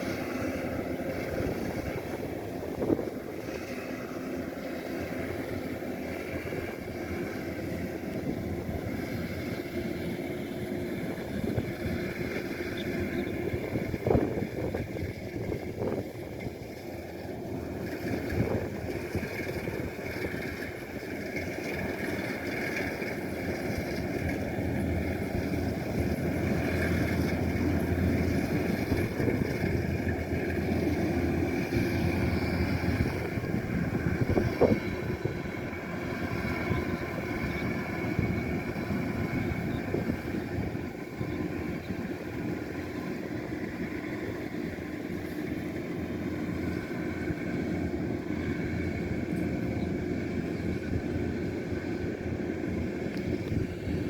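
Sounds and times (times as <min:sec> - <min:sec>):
combine harvester machinery drone: 0:00.0 - 0:54.0.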